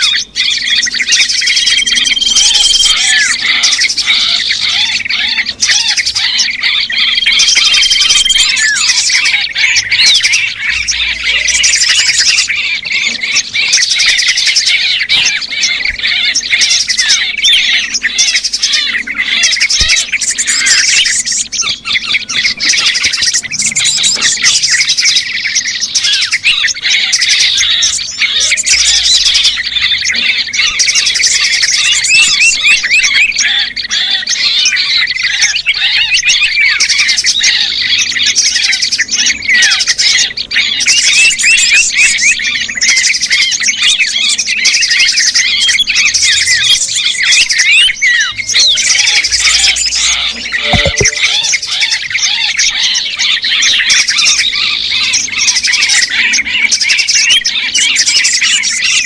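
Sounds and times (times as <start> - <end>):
small birds chirping and squawking: 0.0 - 59.0.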